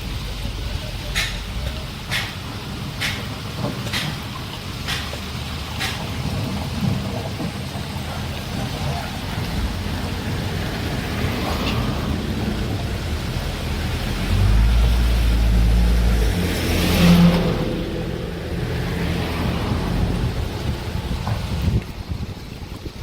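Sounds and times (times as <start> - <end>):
diesel engine rumbling: 0.0 - 23.0.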